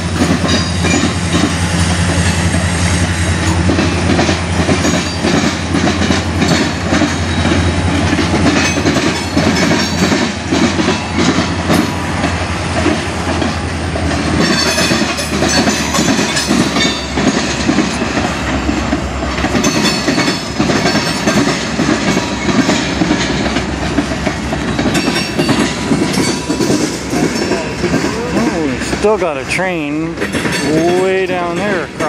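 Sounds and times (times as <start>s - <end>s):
freight train wheels clattering: 0.0s - 32.0s
train rumble: 0.0s - 32.0s.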